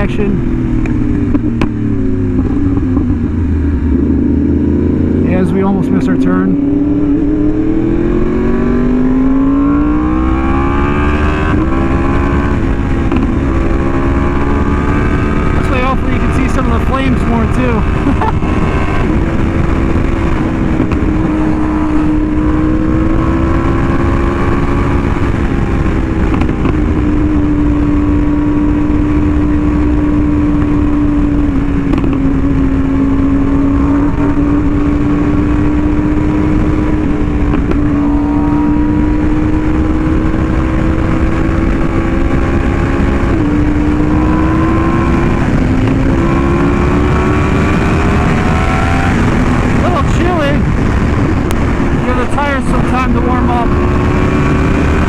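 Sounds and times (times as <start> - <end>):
low wind rush: 0.0 - 55.0
motorcycle engine cruising: 0.0 - 55.0.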